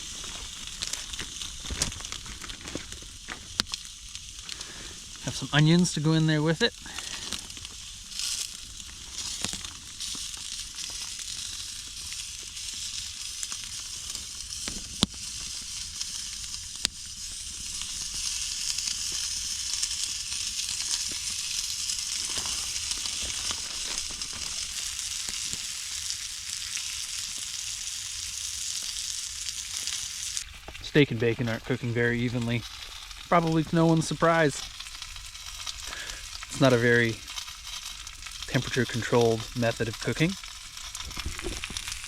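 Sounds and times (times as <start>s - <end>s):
meat sizzling in a pan: 0.0s - 42.0s.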